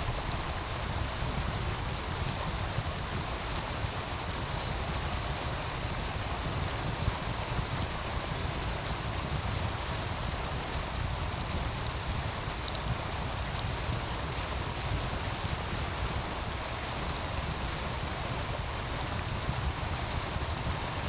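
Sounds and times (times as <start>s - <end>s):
wood fire crackling and popping: 0.0s - 20.7s.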